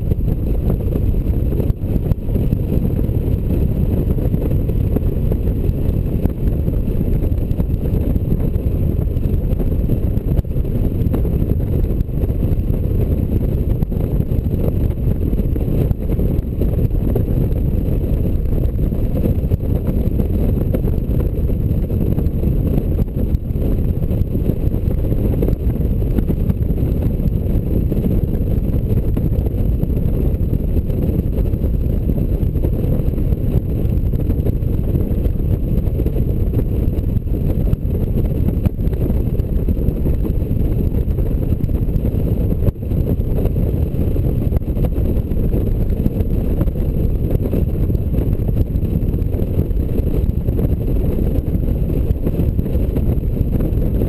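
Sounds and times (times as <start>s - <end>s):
motorcycle engine rumble: 0.0s - 54.0s
wind rush: 0.0s - 54.0s.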